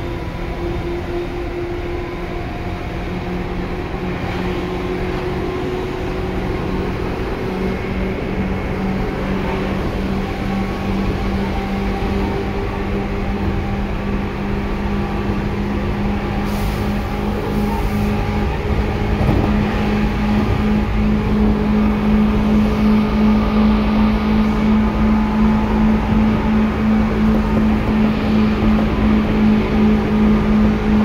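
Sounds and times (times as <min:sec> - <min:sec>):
electric train motor hum: 0:00.0 - 0:31.0
train running rumble: 0:00.0 - 0:31.0.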